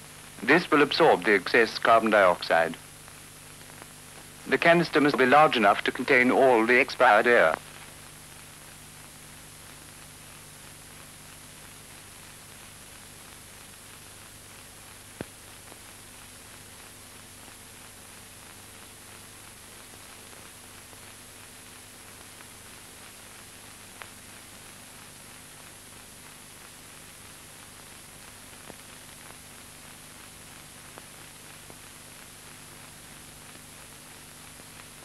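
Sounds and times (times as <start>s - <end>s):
film soundtrack hiss and hum: 0.0s - 35.0s.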